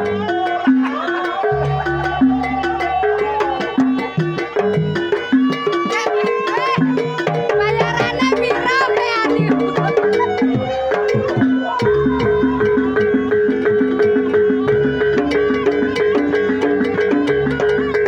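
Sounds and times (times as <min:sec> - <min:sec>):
drums and percussion with melody: 0:00.0 - 0:18.0.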